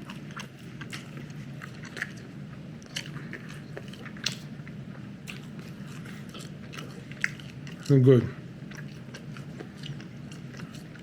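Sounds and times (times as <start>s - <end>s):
person chewing wetly: 0.0s - 11.0s
steady low hum: 0.0s - 11.0s.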